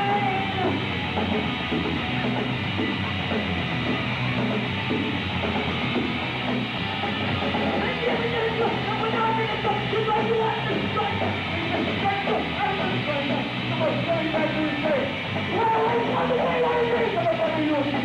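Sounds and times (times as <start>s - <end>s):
distorted electric guitar: 0.0s - 18.0s
drums: 0.0s - 18.0s.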